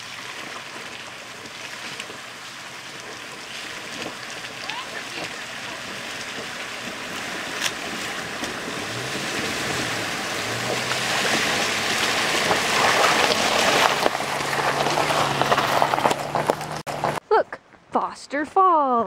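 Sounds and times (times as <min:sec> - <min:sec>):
car engine low note: 0:00.0 - 0:17.2
water splashing around wheels: 0:00.0 - 0:17.2.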